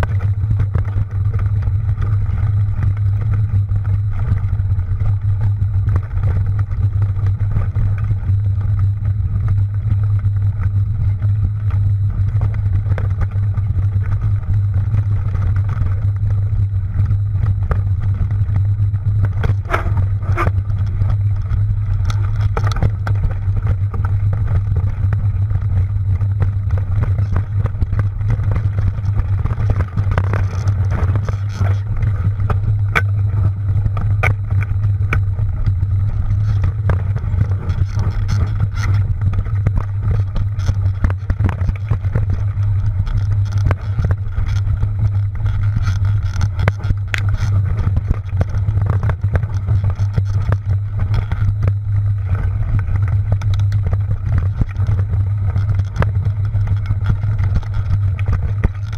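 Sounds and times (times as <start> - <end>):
bike clicks and rattles: 0.0 - 58.9
mountain bike rumbling on trail: 0.0 - 58.9.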